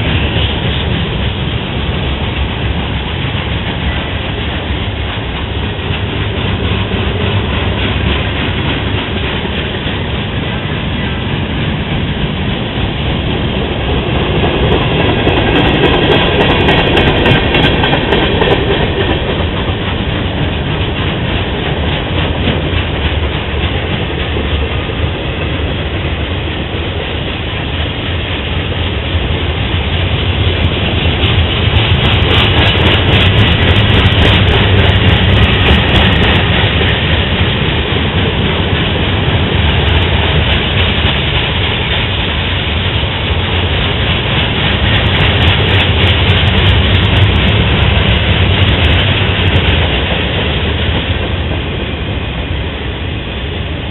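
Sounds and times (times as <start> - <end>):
train wheels running over rails: 0.0 - 53.9.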